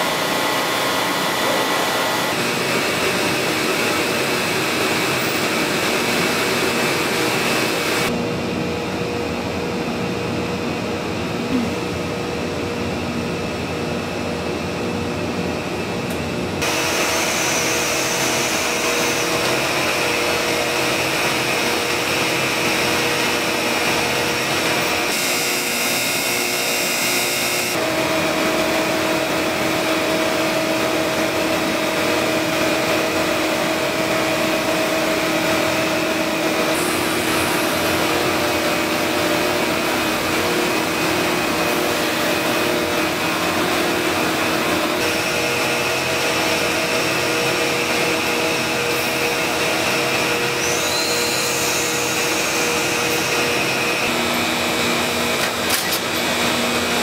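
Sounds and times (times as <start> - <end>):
grinding machine hiss and whine: 0.0 - 57.0.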